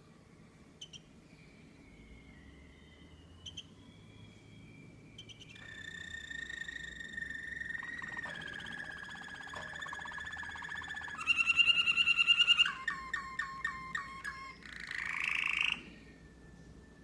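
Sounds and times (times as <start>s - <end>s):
canary singing trills: 0.8s - 17.0s.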